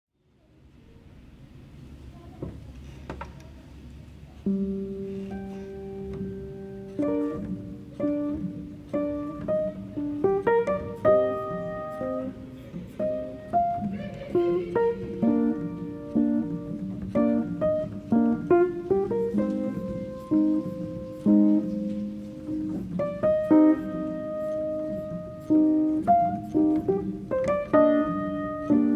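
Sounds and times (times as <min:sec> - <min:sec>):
plucked guitar melody: 0:04.4 - 0:28.9.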